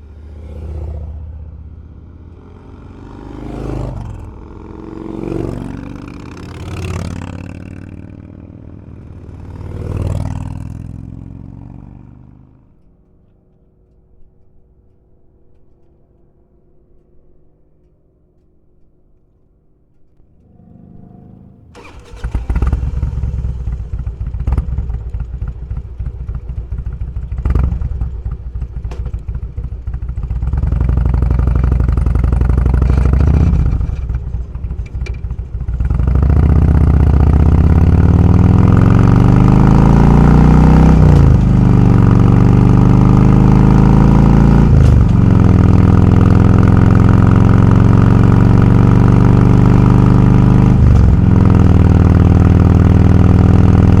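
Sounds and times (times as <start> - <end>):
motorcycle engine: 0.0 - 14.0, 20.0 - 54.0.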